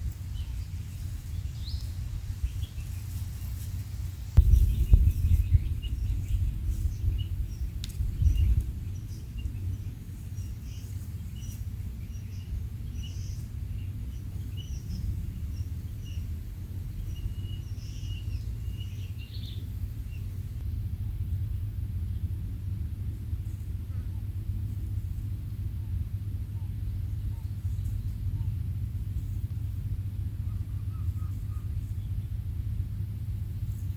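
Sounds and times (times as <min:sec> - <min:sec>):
low wind rumble on microphone: 0:00.0 - 0:33.9
small birds chirping: 0:00.0 - 0:33.9.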